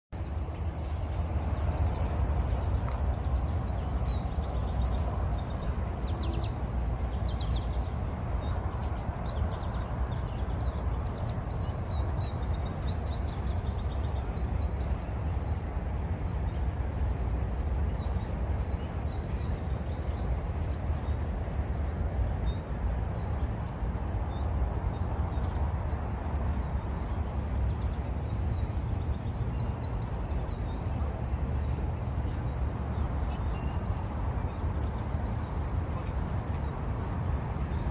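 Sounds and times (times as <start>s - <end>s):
steady low rumble: 0.2s - 37.9s.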